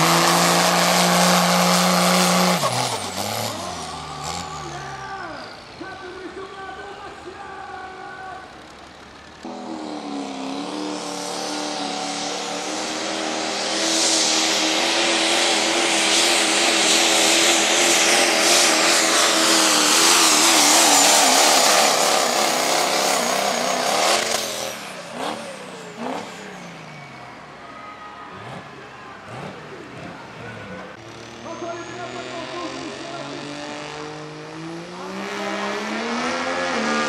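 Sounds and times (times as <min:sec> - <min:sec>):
diesel truck engine revving: 0:00.0 - 0:07.0, 0:07.8 - 0:37.0.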